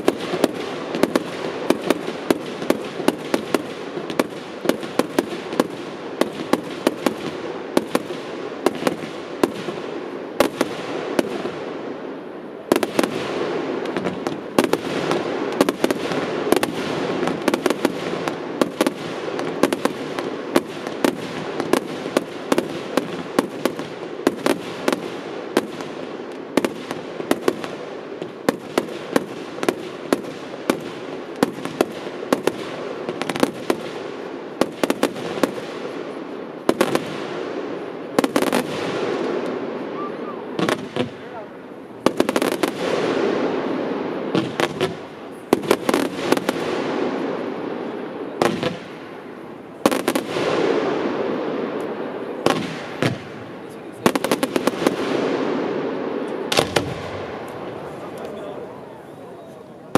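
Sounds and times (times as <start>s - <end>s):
fireworks bangs: 0.0s - 59.9s
rush of fireworks noise: 0.0s - 59.9s.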